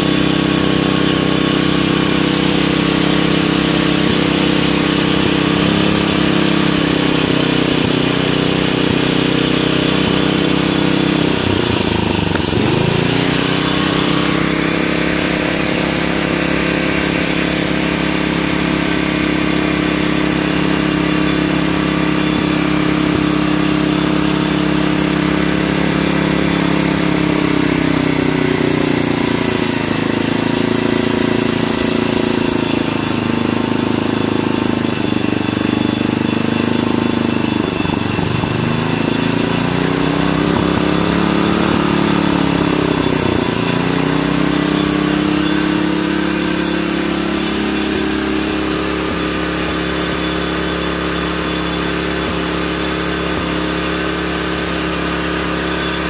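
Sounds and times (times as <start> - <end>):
lawn tractor engine running: 0.0 - 56.0.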